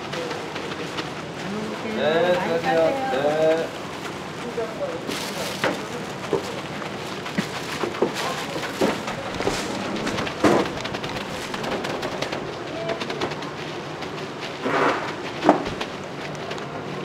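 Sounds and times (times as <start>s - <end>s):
crackly rustle of sticky snack: 0.0s - 17.0s.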